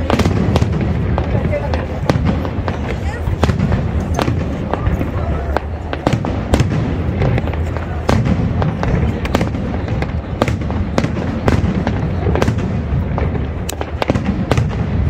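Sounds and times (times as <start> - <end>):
fireworks bangs and crackles: 0.0 - 15.0
low rumble of explosions: 0.0 - 15.0.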